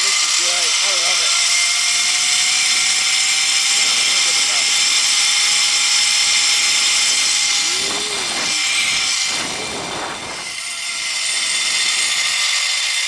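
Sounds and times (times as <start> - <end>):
zip-line pulleys whirring on cable: 0.0 - 13.0.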